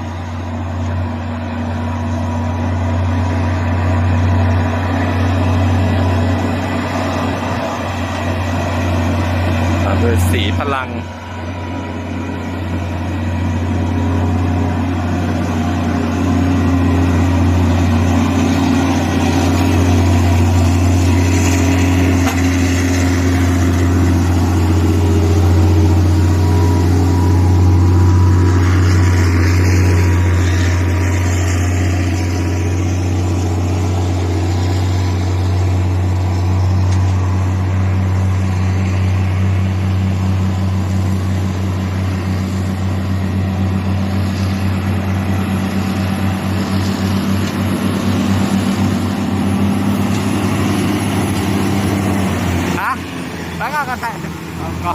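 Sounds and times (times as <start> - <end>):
diesel truck engine droning: 0.0 - 54.9.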